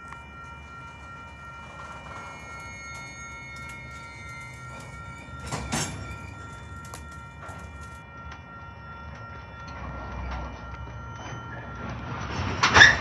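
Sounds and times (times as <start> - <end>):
steady high ringing tone: 0.0 - 13.0
train cars clanking: 0.0 - 13.0
train wheels clicking: 0.0 - 13.0.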